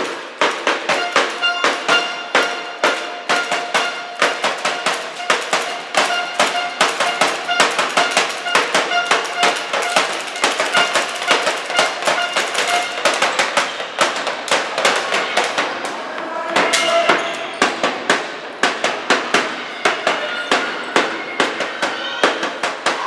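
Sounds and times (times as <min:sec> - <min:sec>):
people clapping: 0:00.0 - 0:23.0.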